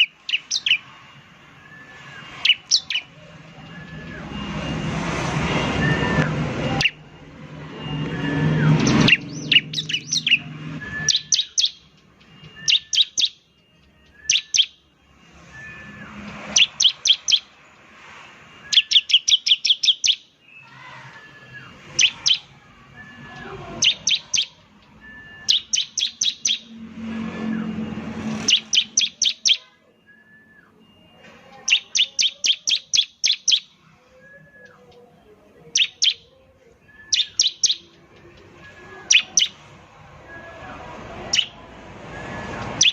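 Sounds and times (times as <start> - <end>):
soft bird call notes: 0.0 - 4.9, 5.6 - 42.9
bird song of sharp high notes: 0.0 - 42.9.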